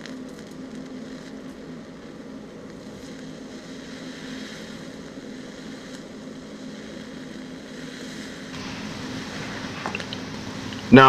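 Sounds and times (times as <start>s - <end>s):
welding arc buzzing hiss: 1.0s - 11.0s.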